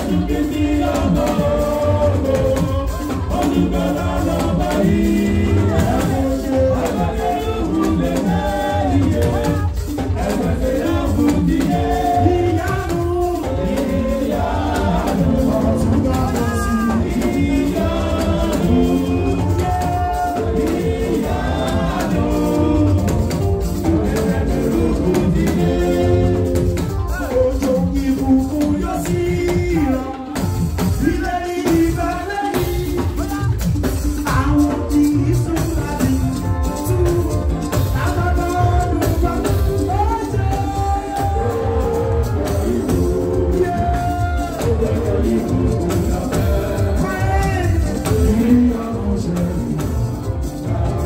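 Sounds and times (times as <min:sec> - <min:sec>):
live band music: 0:00.0 - 0:51.0
person singing into a microphone: 0:00.0 - 0:51.0
shaker percussion: 0:00.0 - 0:51.0.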